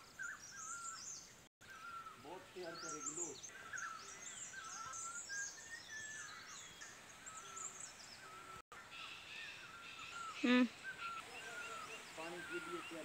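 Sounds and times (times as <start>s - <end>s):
wild birds chirping and whistling: 0.0s - 13.0s.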